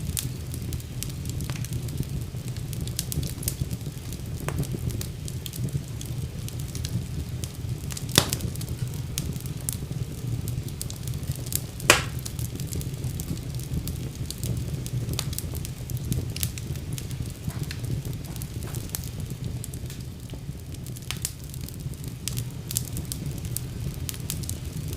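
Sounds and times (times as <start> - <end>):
fire crackling: 0.0 - 24.9
loud fire pops: 0.0 - 24.9
low rumble of flames: 0.0 - 24.9.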